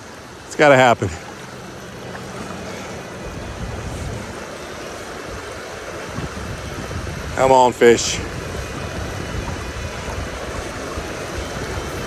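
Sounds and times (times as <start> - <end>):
river current rushing: 0.0 - 12.0
wind buffeting microphone: 1.2 - 12.0.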